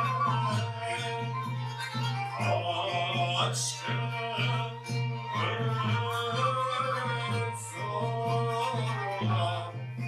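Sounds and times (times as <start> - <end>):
ceremonial music melody: 0.0 - 10.0.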